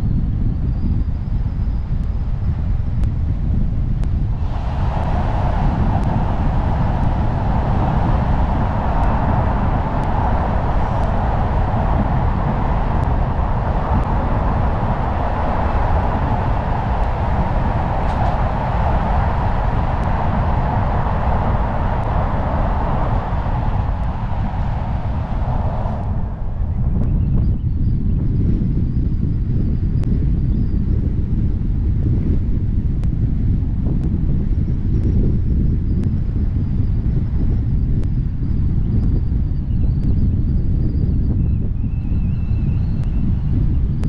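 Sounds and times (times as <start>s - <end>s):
car road and wind noise: 0.0s - 44.0s.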